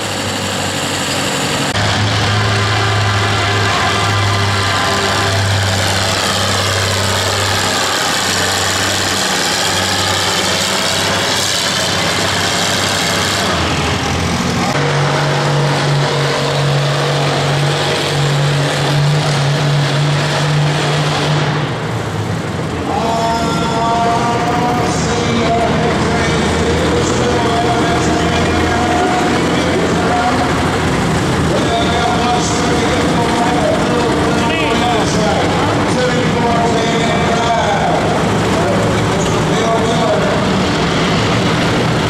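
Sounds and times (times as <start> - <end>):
tractor engines running: 0.0 - 42.0.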